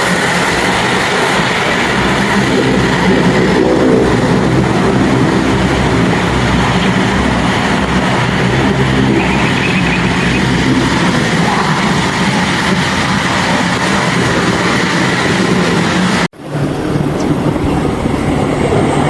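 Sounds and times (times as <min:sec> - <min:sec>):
aircraft engines droning: 0:00.0 - 0:19.0.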